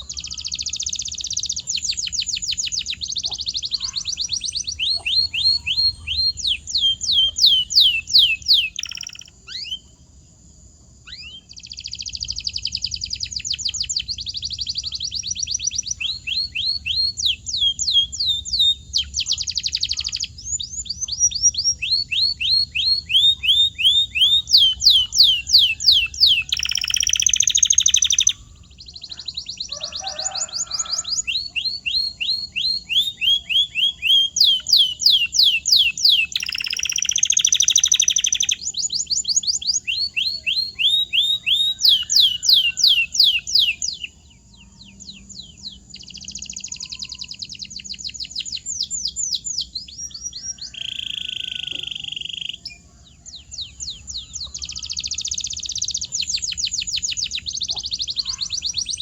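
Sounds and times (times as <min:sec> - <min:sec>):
canary singing whistled trills: 0:00.0 - 0:10.0, 0:11.0 - 0:59.0.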